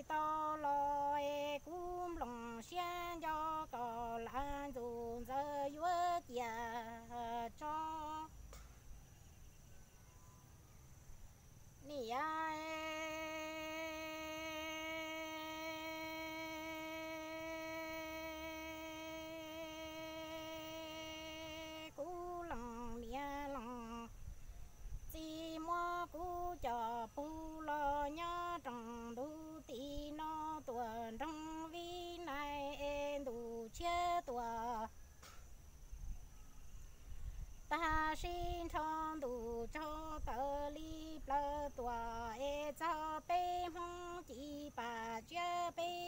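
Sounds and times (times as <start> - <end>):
person singing unaccompanied: 0.0 - 8.7, 11.7 - 35.6, 37.4 - 46.0.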